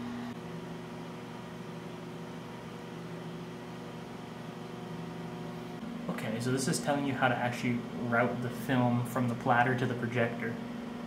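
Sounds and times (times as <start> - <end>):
cooling fans humming: 0.0 - 11.0.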